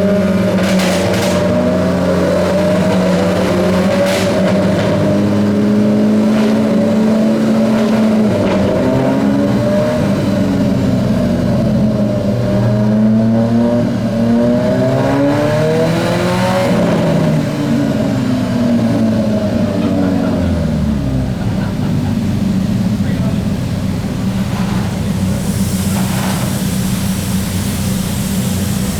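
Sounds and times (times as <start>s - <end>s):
sports car engines revving: 0.0s - 28.9s.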